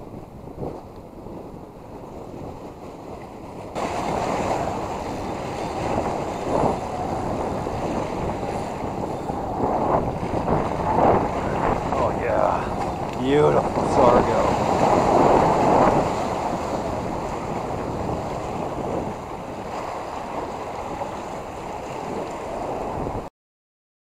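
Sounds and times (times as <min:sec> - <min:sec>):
surf breaking against boulders: 0:00.0 - 0:23.2
wind on microphone: 0:00.0 - 0:23.3.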